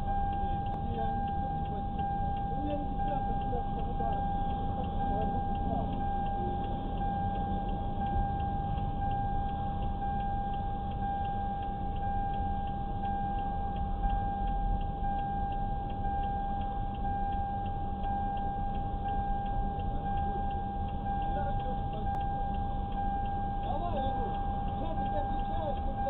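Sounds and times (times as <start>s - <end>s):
car electronic warning tone: 0.0s - 26.0s
low rumble: 0.0s - 26.0s
relay ticking: 0.0s - 26.0s.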